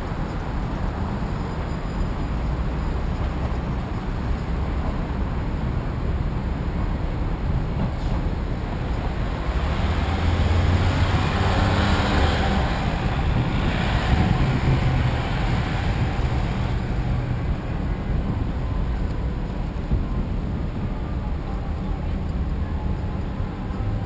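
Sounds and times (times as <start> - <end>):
low engine hum: 0.0 - 24.0
passing vehicles: 0.0 - 24.0.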